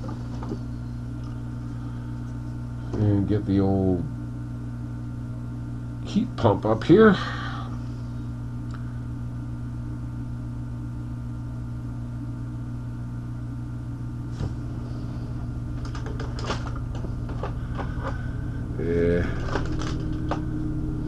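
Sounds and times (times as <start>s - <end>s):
hot air blower humming: 0.0s - 11.3s, 13.9s - 21.0s.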